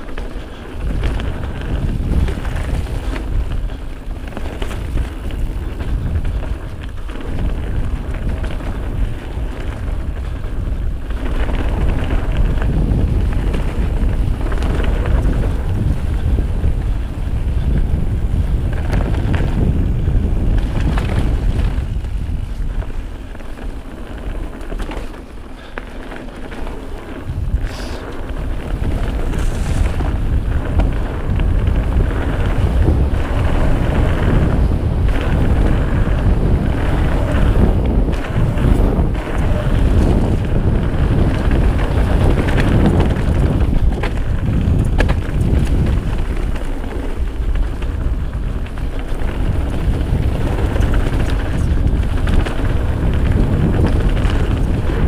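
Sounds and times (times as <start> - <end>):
bike knocks and rattles: 0.0 - 55.0
bike tyres rumbling on dirt: 0.0 - 55.0
wind buffeting microphone: 0.0 - 55.0.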